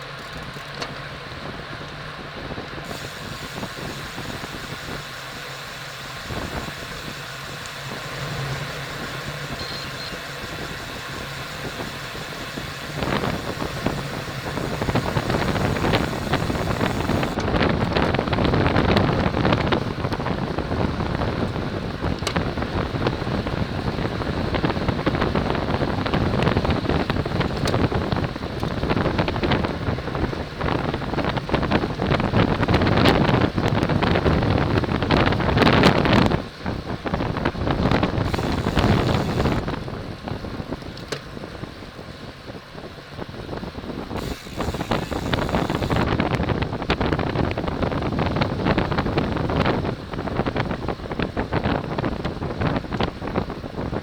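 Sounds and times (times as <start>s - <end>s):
wind buffeting microphone: 1.3s - 54.0s.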